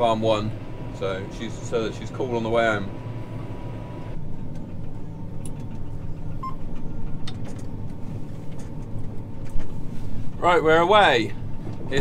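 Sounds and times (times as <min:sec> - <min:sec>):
engine humming inside a cab: 0:00.0 - 0:12.0.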